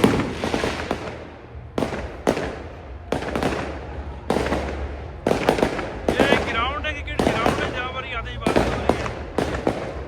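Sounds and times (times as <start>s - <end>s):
fireworks bangs echoing: 0.0s - 10.0s.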